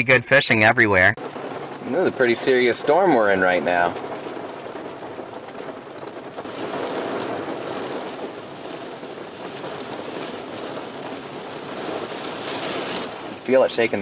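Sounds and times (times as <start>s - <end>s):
heavy rain on car roof: 1.0s - 14.0s.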